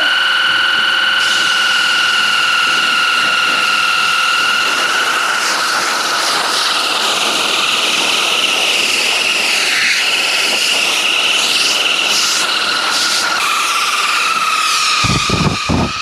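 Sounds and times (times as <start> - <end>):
filter spinning high whine: 0.0 - 16.0.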